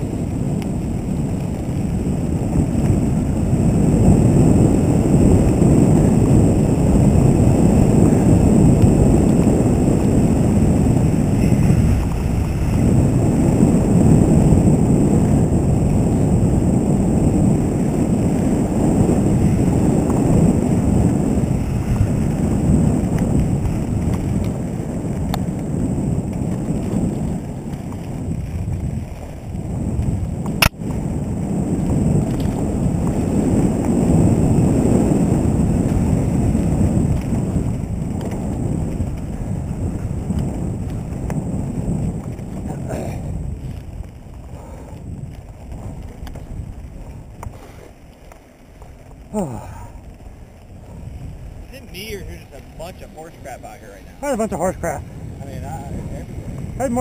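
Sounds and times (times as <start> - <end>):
bike tyres rattling on dirt: 0.0 - 57.0
wind buffeting microphone: 0.0 - 57.0.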